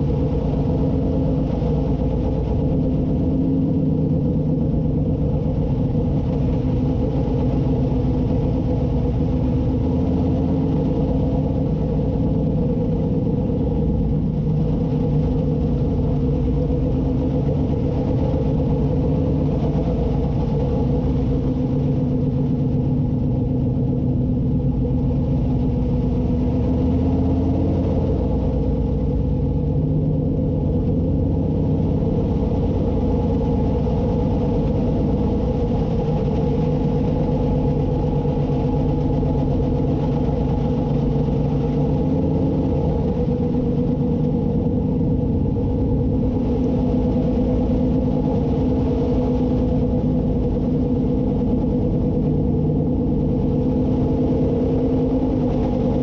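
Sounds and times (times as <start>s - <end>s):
race car engine at low revs: 0.0s - 56.0s.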